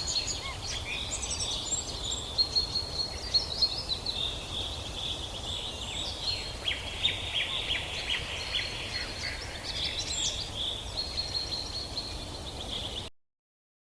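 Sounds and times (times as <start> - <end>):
songbirds chirping and trilling: 0.0 - 13.1.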